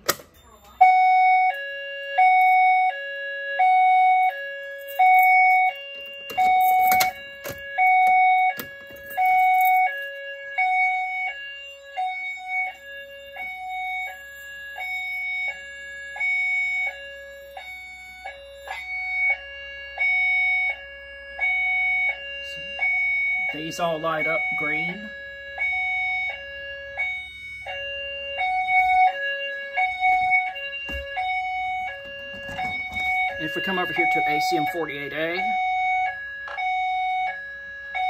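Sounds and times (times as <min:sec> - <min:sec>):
fire alarm hi-lo tones: 0:00.0 - 0:38.0.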